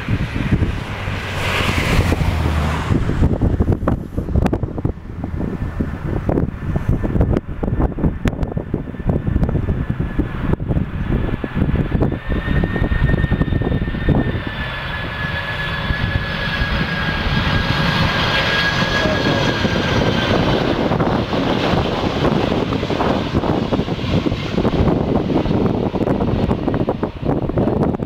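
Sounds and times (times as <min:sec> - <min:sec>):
deep engine rumble: 0:00.0 - 0:28.0
jet engines whining: 0:00.0 - 0:28.0
wind buffeting microphone: 0:00.0 - 0:28.0.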